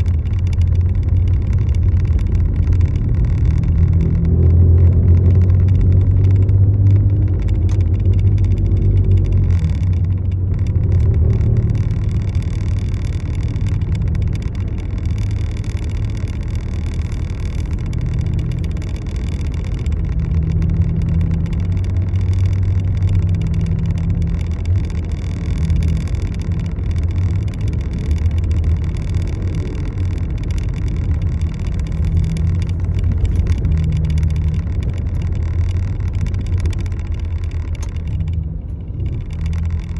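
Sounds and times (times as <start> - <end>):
vehicle rumble in motion: 0.0 - 39.9.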